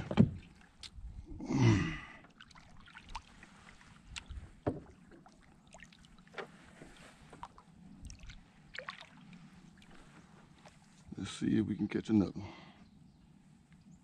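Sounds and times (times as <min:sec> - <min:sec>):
faint water and wind hiss: 0:00.0 - 0:14.0.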